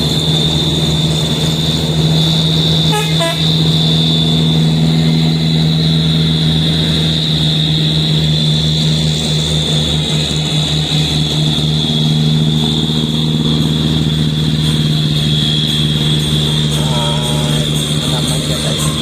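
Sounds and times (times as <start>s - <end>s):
diesel truck engine drone: 0.0s - 19.0s
high-pitched whine: 0.0s - 19.0s.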